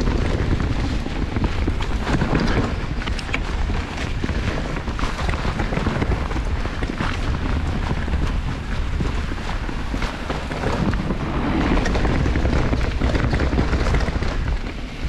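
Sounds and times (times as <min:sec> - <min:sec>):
bike clicks and rattles: 0:00.0 - 0:15.0
tyres rumbling on dirt: 0:00.0 - 0:15.0
wind buffeting microphone: 0:00.0 - 0:15.0.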